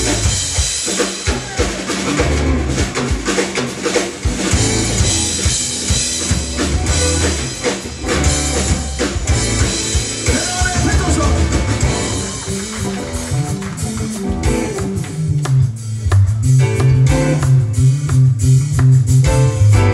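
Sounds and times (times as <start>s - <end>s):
live band playing: 0.0s - 19.9s.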